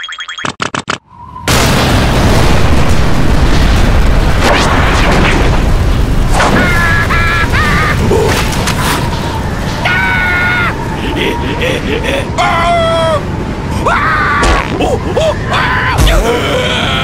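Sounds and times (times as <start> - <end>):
cartoon water rushing with rumble: 1.5 - 17.0.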